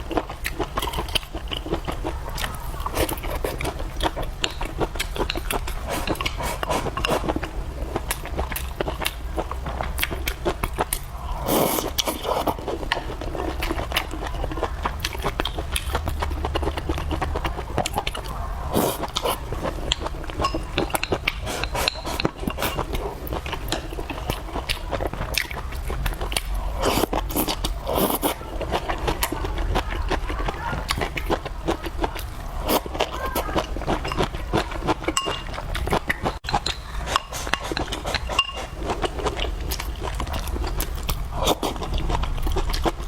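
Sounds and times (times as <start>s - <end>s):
chewing and crunching food: 0.0s - 43.0s.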